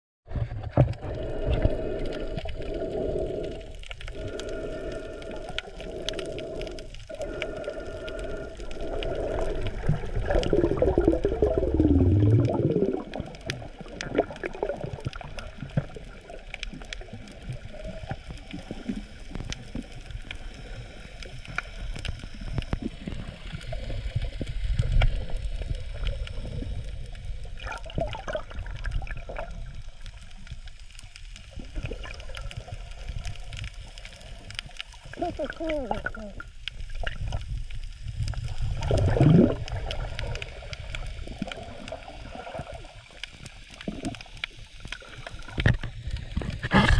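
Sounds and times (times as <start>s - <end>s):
underwater gurgling: 0.3s - 46.9s.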